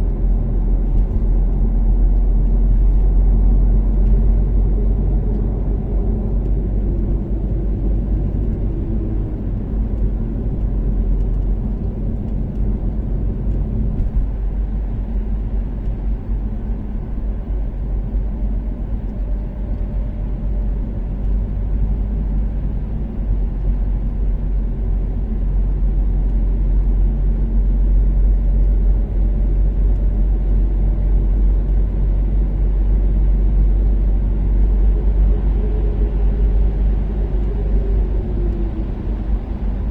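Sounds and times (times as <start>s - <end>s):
car engine and tyres cruising: 0.0s - 39.9s.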